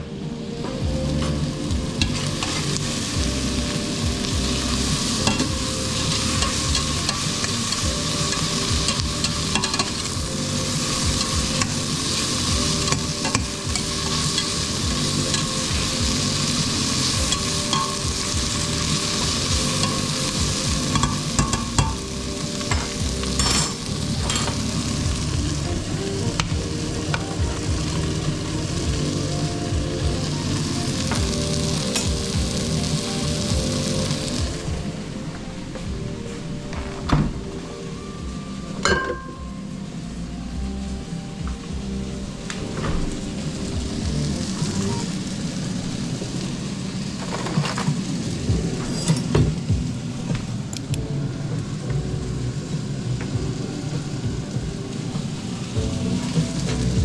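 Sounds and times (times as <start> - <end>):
food sizzling in a pan: 0.0 - 36.6, 40.9 - 57.0.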